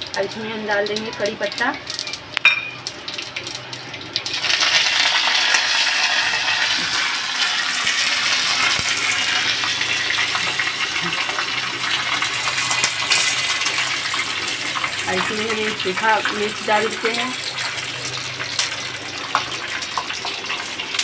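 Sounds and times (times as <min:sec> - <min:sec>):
leaves sizzling in hot oil: 0:00.0 - 0:21.0.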